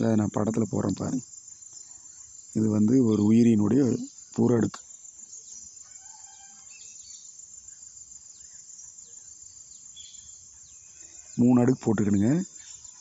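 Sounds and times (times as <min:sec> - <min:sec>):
bird calls: 0:00.0 - 0:13.0
insects chirping: 0:00.0 - 0:13.0.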